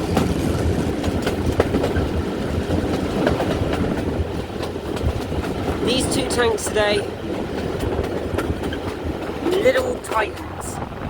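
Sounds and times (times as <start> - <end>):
rail joint clicks: 0.0 - 10.6
train wheels rumbling on rails: 0.0 - 11.0.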